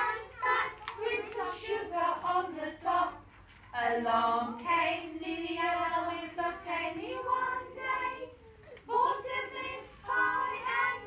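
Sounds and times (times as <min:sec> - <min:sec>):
young children singing: 0:00.0 - 0:11.0.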